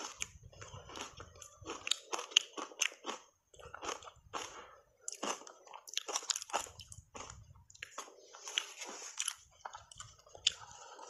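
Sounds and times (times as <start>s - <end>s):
crunching and chewing ice: 0.0s - 11.0s.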